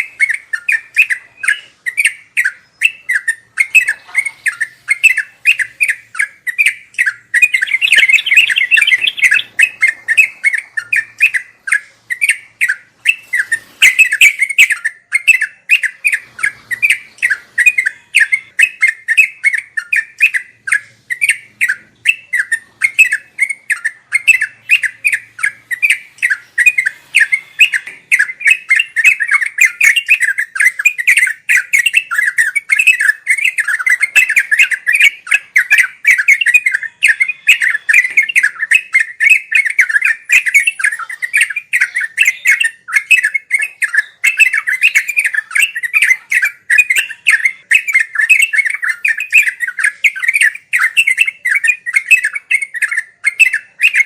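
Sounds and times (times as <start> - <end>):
bird singing rapid bubbly chatter: 0.0 - 54.0.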